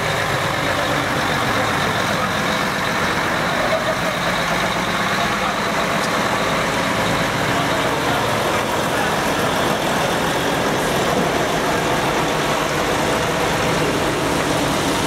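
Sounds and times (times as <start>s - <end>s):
truck diesel engines at low speed: 0.0s - 15.0s.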